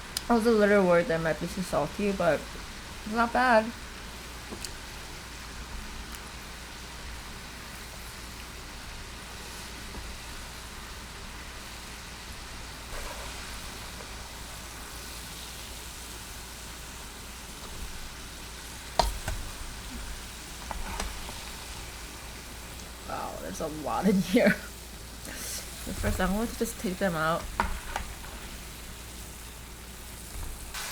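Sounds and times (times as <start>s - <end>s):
chicken deep-frying in oil: 0.0s - 30.9s.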